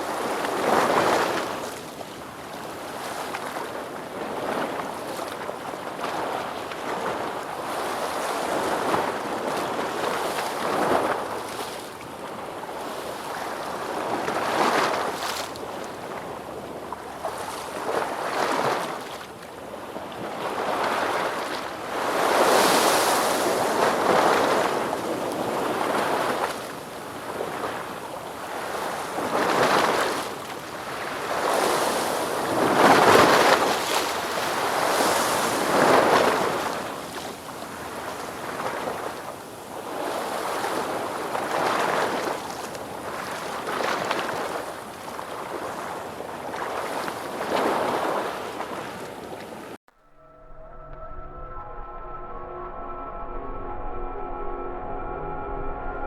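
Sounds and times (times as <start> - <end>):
ocean waves breaking on shore: 0.0 - 49.8.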